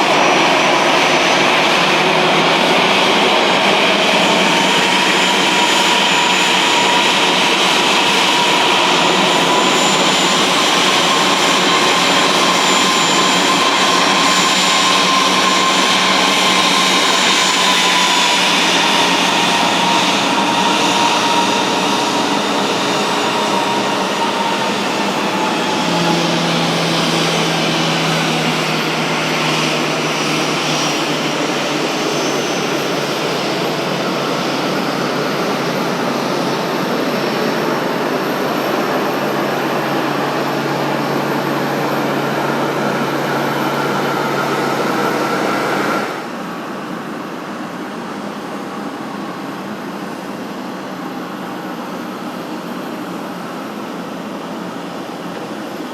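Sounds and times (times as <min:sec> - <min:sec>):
faint jet whine: 0:00.0 - 0:55.9
jet engines roaring: 0:00.0 - 0:55.9.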